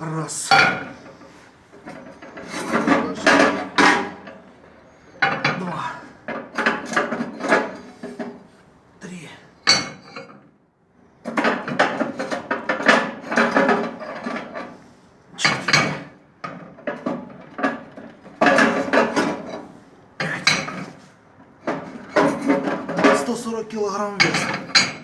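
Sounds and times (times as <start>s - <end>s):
cast iron clanking and scraping: 0.5s - 8.4s, 11.2s - 14.8s, 15.4s - 23.6s, 24.2s - 25.0s.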